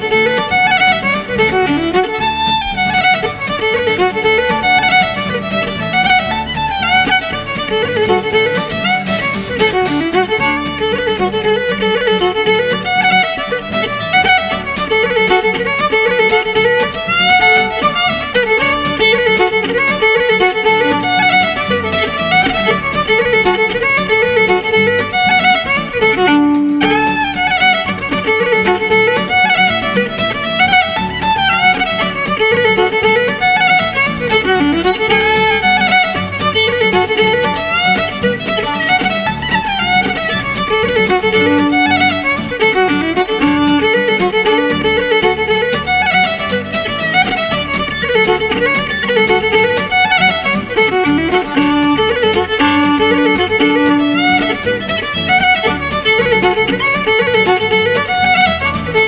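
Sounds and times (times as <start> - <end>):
fiddle playing fast dance tune: 0.0 - 59.0.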